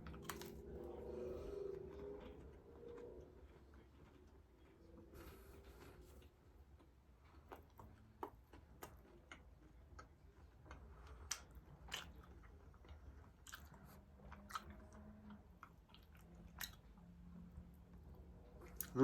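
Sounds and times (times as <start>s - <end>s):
chewing crisp chocolate: 0.0s - 19.0s.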